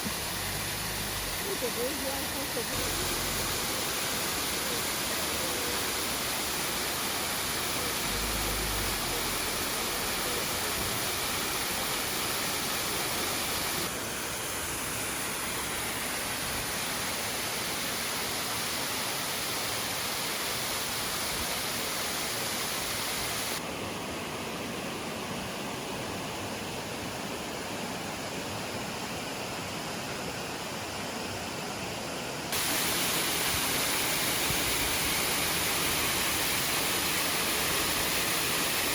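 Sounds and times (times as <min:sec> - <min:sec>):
waterfall rushing: 0:00.0 - 0:26.7, 0:32.5 - 0:38.9.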